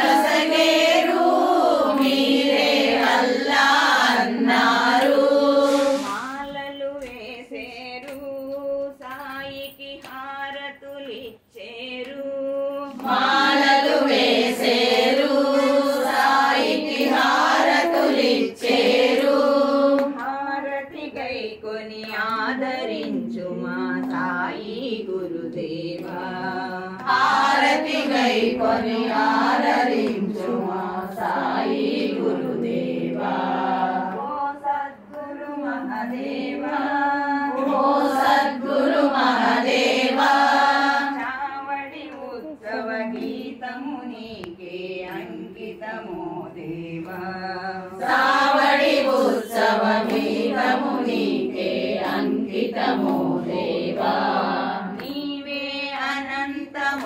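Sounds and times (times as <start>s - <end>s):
women singing devotional song: 0.0s - 57.0s.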